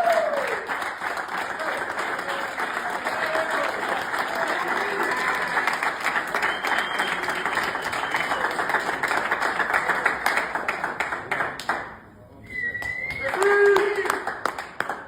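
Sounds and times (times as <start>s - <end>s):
crowd applauding: 0.0s - 12.0s, 12.6s - 15.0s.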